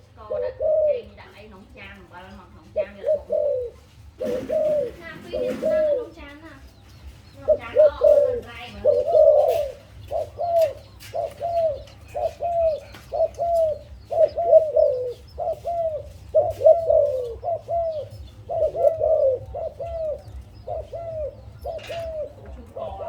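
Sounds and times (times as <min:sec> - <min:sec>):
dove cooing: 0:00.0 - 0:23.0.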